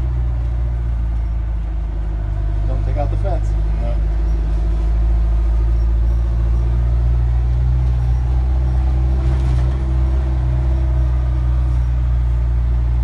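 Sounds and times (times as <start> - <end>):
diesel bus engine idling: 0.0 - 13.0.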